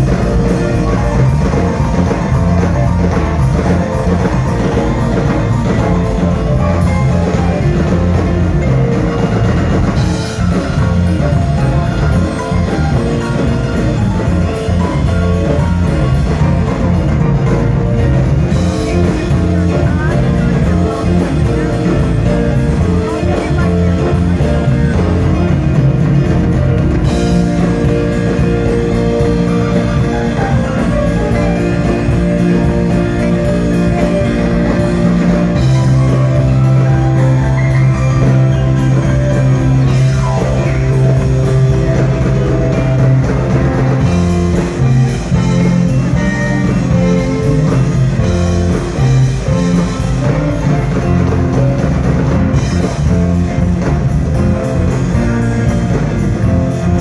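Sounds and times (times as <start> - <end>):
bass guitar: 0.0 - 57.0
drum kit: 0.0 - 57.0
electric guitars: 0.0 - 57.0
keyboards: 0.0 - 57.0.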